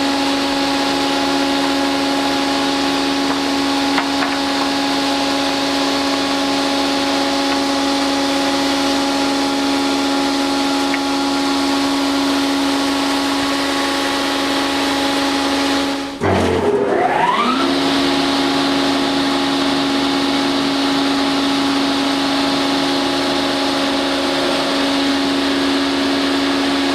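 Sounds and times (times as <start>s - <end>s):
edging saw humming: 0.0s - 26.9s
rising whine: 0.0s - 26.9s.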